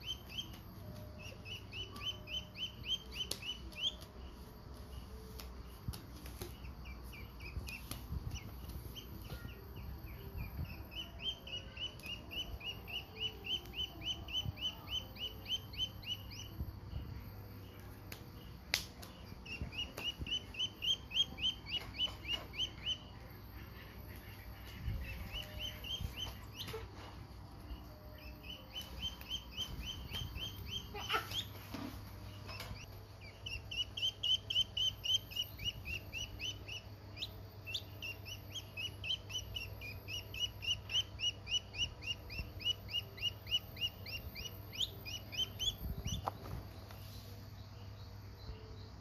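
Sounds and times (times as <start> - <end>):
duckling peeping: 0.0 - 17.0, 17.6 - 49.0.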